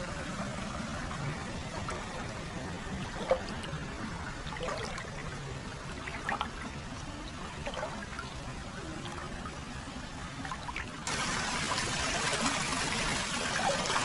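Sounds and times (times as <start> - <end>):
small water splashes: 0.0 - 14.0
water trickling and pouring: 0.0 - 14.0.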